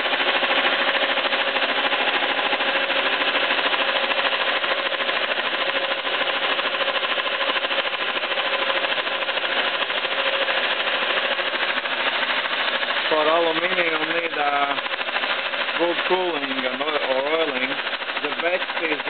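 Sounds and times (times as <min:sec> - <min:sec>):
milling cutter rattling cut: 0:00.0 - 0:19.0
milling machine running hum: 0:00.0 - 0:19.0.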